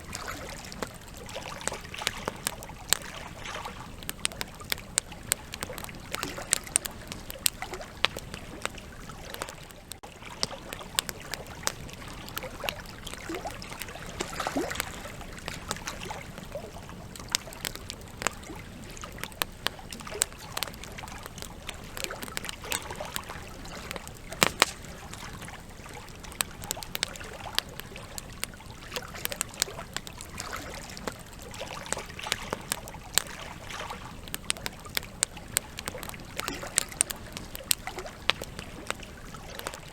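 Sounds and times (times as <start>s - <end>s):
campfire logs crackling and popping: 0.0s - 39.9s.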